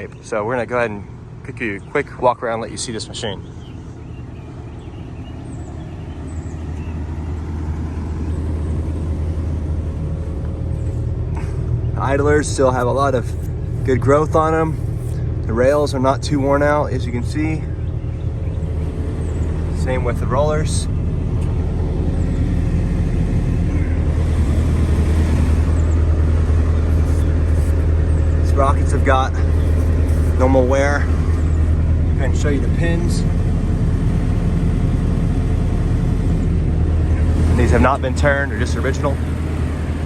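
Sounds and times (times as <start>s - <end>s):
excavator diesel engine idling: 0.0s - 40.0s.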